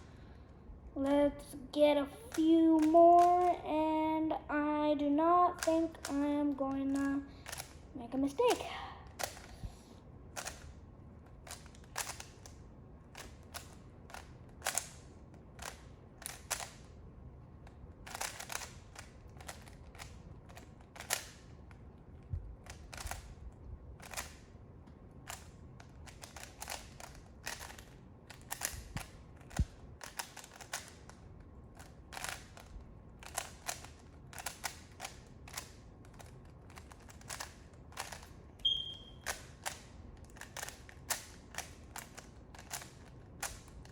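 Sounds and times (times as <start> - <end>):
puzzle cube layers clacking: 2.2 - 3.6, 5.5 - 7.8, 8.4 - 9.5, 10.3 - 17.0, 17.6 - 23.4, 24.0 - 24.4, 25.2 - 43.9.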